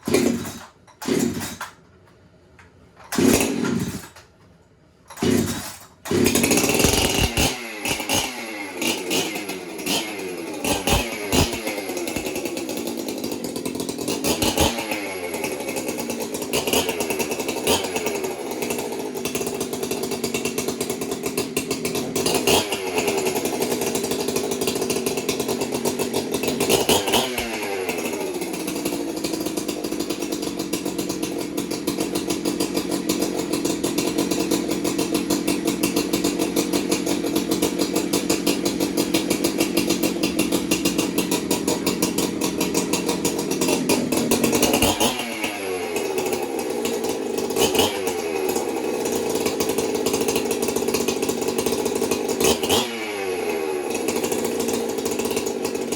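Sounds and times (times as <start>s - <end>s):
chainsaw engine revving and idling: 0.0s - 4.4s, 5.1s - 55.9s.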